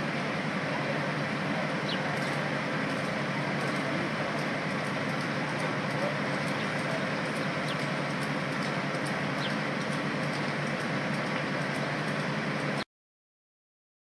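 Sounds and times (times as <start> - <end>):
vehicle engine running: 0.0 - 12.8.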